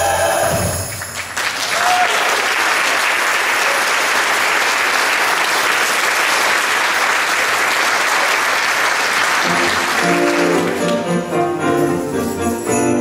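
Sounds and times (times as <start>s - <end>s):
audience applause: 0.8s - 11.4s.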